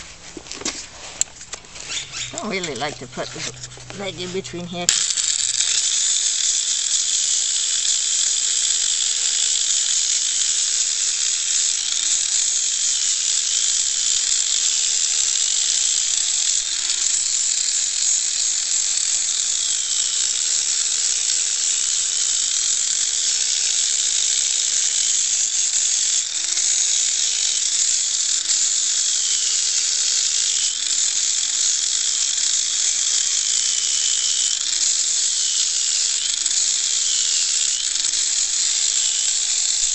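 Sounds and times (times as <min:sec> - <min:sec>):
handheld grinder grinding hoof: 0:00.0 - 0:39.9.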